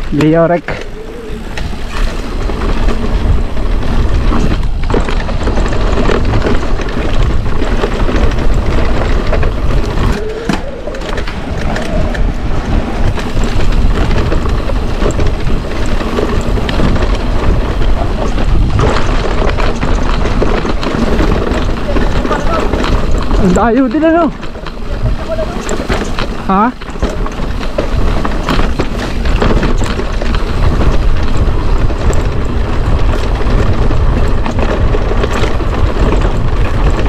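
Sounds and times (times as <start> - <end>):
bike rattling: 0.0 - 37.0
tyres rolling over rock: 0.0 - 37.0
wind rushing over microphone: 0.0 - 37.0.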